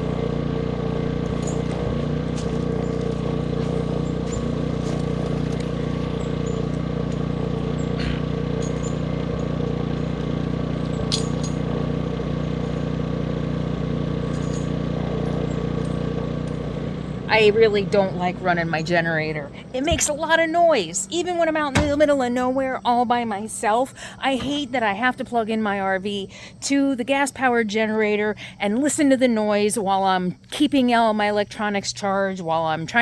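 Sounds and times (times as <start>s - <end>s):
generator engine humming: 0.0s - 30.0s.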